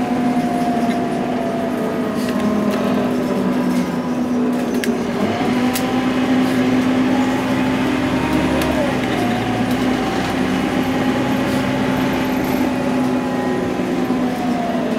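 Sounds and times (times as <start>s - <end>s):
bus engine and drivetrain whine: 0.0s - 14.9s.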